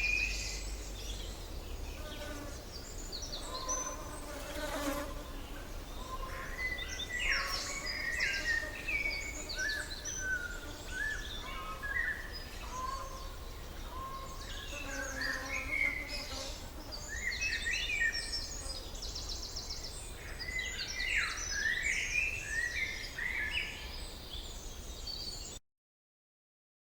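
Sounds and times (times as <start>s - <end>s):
forest birds chirping and trilling: 0.0s - 25.6s.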